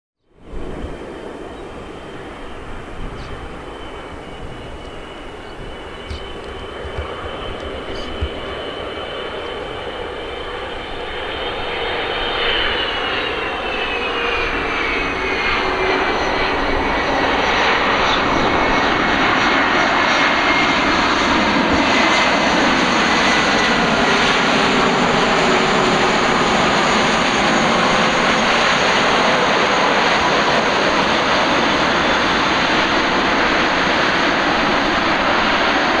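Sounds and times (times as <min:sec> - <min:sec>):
jet engines landing: 0:00.4 - 0:36.0.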